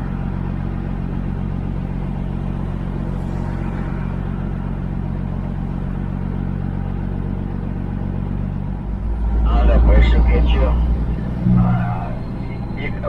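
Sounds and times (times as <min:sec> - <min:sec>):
road noise: 0:00.0 - 0:13.0
truck diesel engine running: 0:00.0 - 0:13.0.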